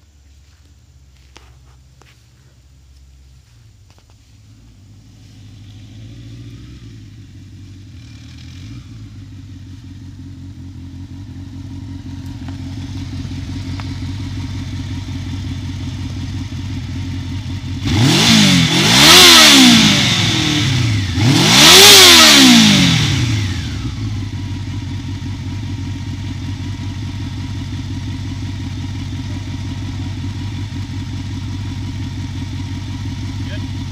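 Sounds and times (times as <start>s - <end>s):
motorcycle engine running and revving: 1.2s - 33.9s.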